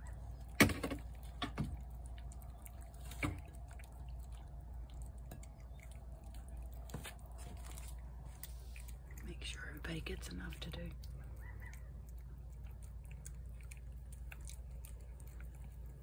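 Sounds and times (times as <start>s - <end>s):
cat chewing wetly: 0.0s - 16.0s
low background hum: 0.0s - 16.0s.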